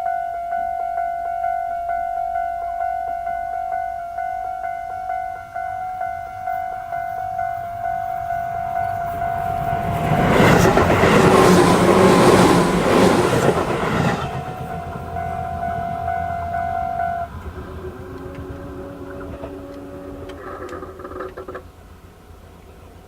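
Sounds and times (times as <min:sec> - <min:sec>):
low steady tones: 0:00.0 - 0:23.0
railway crossing alarm ringing: 0:00.0 - 0:23.0
train passing: 0:00.0 - 0:23.0.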